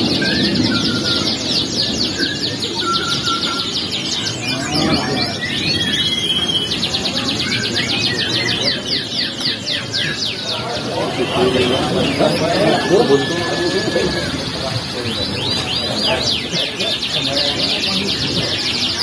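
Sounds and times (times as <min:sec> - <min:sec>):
canaries singing trills: 0:00.0 - 0:19.0.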